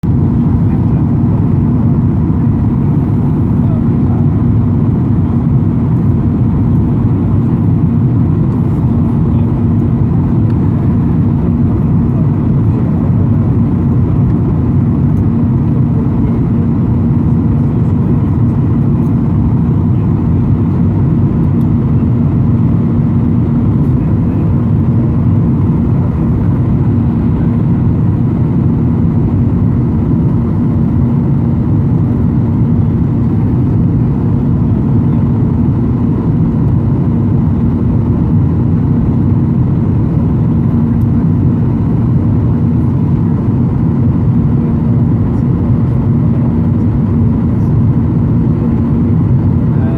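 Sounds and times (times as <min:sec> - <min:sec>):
airliner cabin drone: 0:00.0 - 0:49.9.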